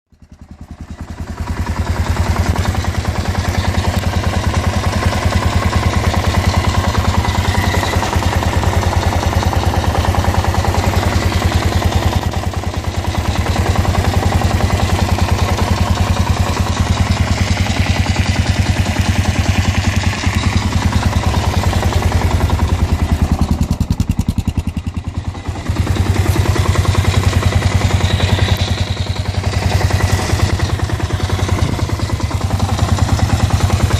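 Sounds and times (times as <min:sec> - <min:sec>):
motorcycle engine running: 0:00.1 - 0:33.9
knocking grinding engine noise: 0:00.2 - 0:33.9.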